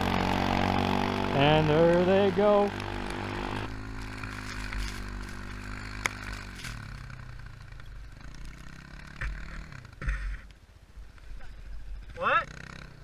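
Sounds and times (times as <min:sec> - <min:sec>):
quad engine pulling away: 0:00.0 - 0:10.1, 0:12.4 - 0:13.0.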